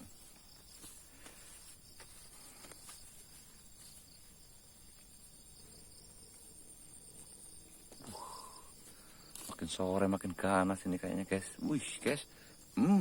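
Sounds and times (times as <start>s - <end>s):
insect chorus chirring: 0.0s - 13.0s.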